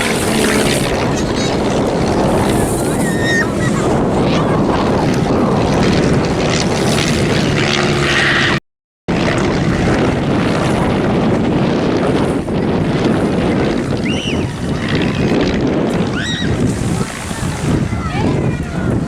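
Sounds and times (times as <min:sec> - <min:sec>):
propeller plane engine: 0:00.0 - 0:19.0
wind buffeting microphone: 0:00.0 - 0:19.0.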